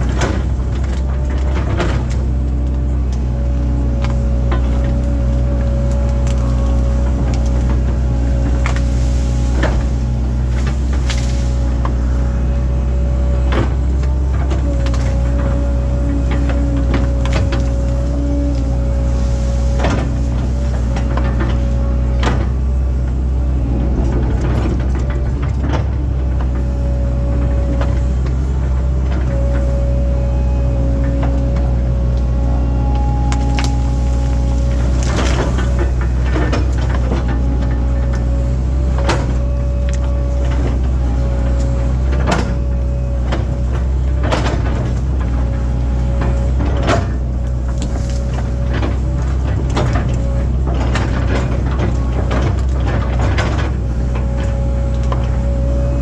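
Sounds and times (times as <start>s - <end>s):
excavator diesel engine running: 0.0s - 56.0s
steady whine: 0.0s - 56.0s.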